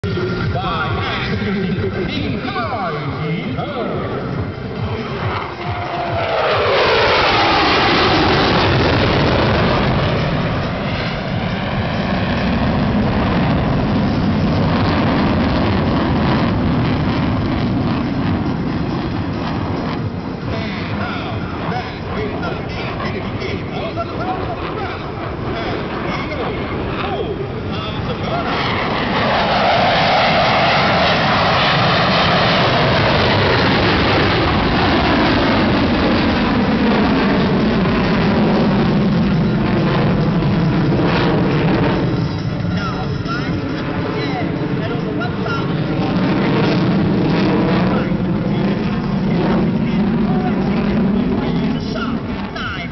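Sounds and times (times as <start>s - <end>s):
fighter jet engine roar: 0.0s - 52.9s.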